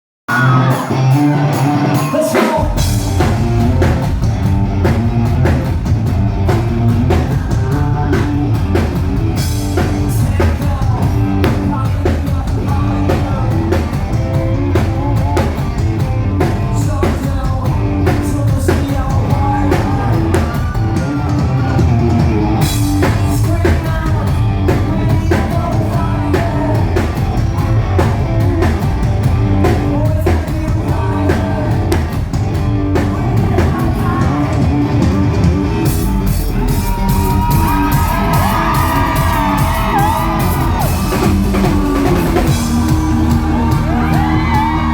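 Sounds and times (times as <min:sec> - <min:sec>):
person singing: 0:00.3 - 0:04.0, 0:06.9 - 0:32.3, 0:32.9 - 0:44.9
drum kit beat: 0:00.3 - 0:44.9
electric guitar: 0:00.3 - 0:44.9
rock band playing live: 0:00.3 - 0:44.9.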